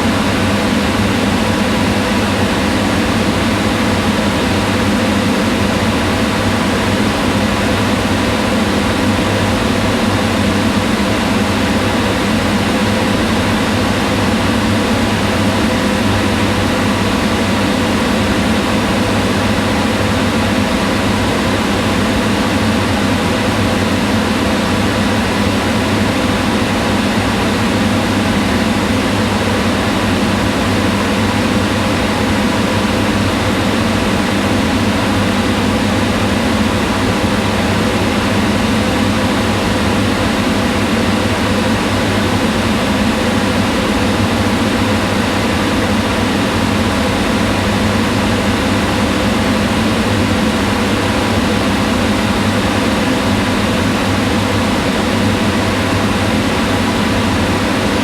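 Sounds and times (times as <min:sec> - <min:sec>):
range hood fan whirring: 0:00.0 - 0:58.0.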